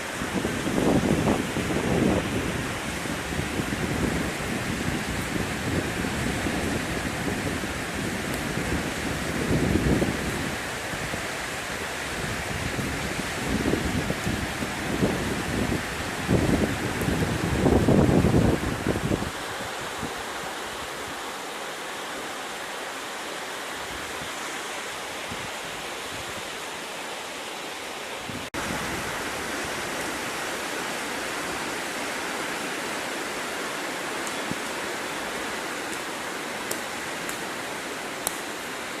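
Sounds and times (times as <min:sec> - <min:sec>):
heavy rain pouring: 0:00.0 - 0:39.0.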